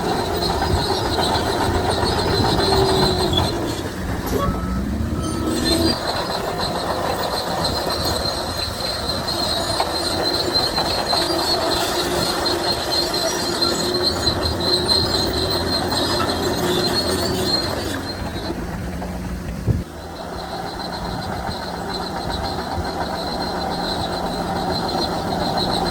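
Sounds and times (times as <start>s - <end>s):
bulldozer engine rumbling: 0.0s - 25.9s
steel tracks squealing: 0.0s - 25.9s.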